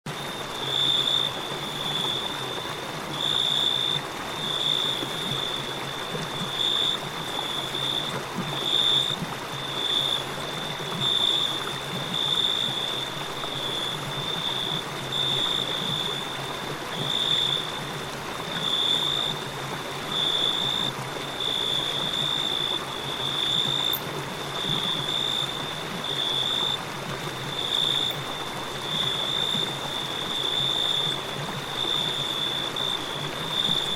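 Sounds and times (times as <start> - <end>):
crickets chirping: 0.1 - 33.9
river water rushing: 0.1 - 33.9.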